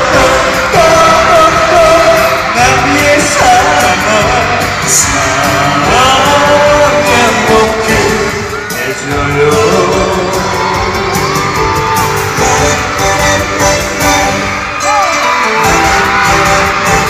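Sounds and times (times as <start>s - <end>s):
singer's amplified voice: 0.0s - 11.2s, 12.3s - 17.0s
live pop backing music: 0.0s - 17.0s.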